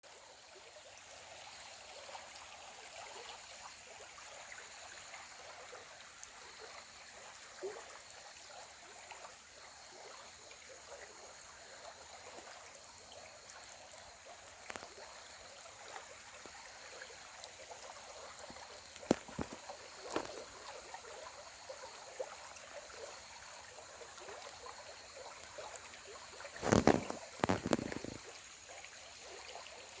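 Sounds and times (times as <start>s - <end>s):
river water flowing: 1.0s - 30.0s.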